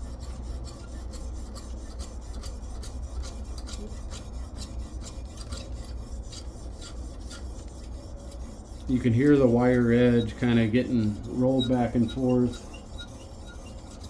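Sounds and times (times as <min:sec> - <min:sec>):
sharpening stone scraping knife edge: 0:00.2 - 0:08.8, 0:10.0 - 0:14.0.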